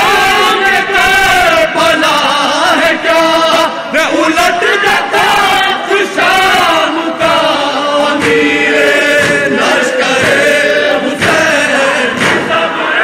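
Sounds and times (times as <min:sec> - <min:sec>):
lead reciter on microphone: 0:00.0 - 0:13.0
men chanting in unison: 0:00.0 - 0:13.0.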